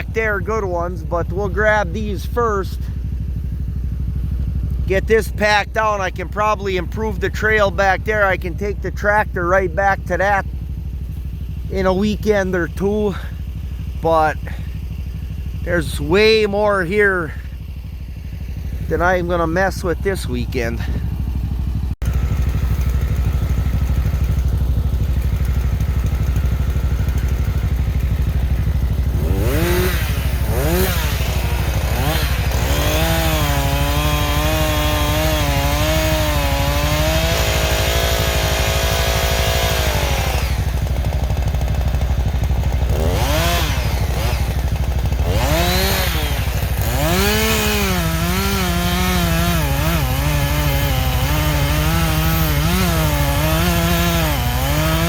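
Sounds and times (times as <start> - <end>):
chainsaw cutting firewood: 0.0 - 55.0
tractor engine idling: 0.0 - 55.0.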